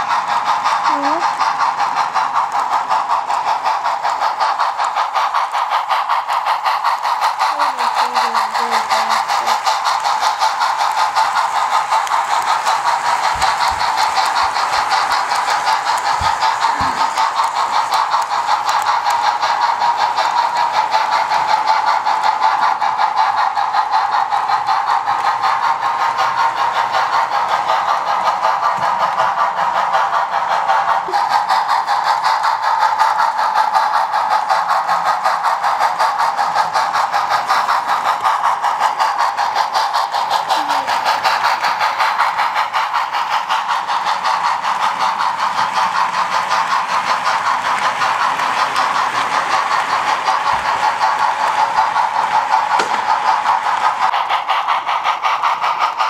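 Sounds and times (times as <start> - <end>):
model train running with ticking: 0.0 - 56.0.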